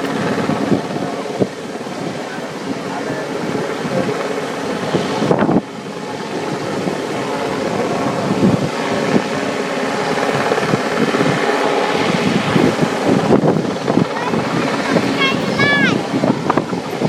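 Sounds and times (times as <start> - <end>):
helicopter hovering: 0.0 - 17.0
wind buffeting microphone: 0.0 - 17.0.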